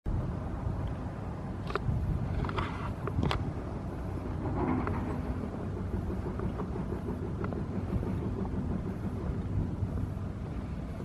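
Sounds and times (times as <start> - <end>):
steady low rumble: 0.1 - 11.0
wind on microphone: 0.1 - 11.0.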